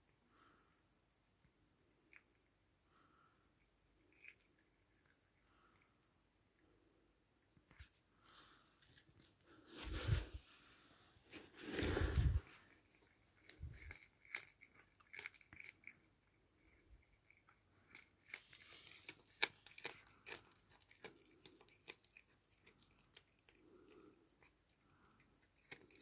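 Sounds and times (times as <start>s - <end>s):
cat chewing crunches: 1.8s - 10.2s, 11.3s - 26.0s.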